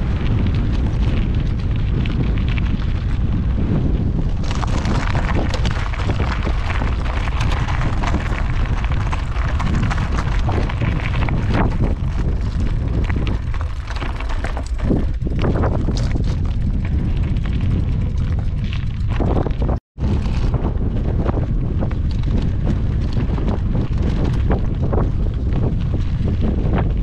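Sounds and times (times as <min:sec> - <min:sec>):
tyres rolling over gravel: 0:00.0 - 0:27.0
wind buffeting microphone: 0:00.0 - 0:27.0.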